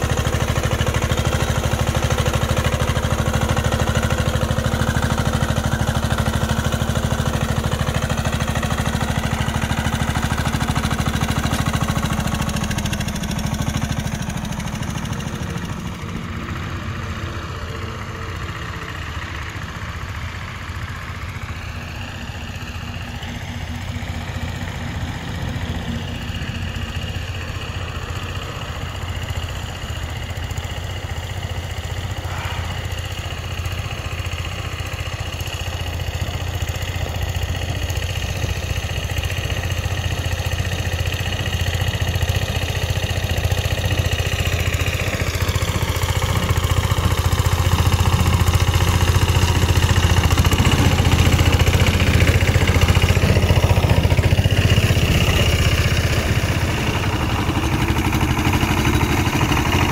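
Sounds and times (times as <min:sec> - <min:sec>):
second walking tractor engine: 0:00.0 - 0:59.9
walking tractor engine running: 0:00.0 - 0:59.9.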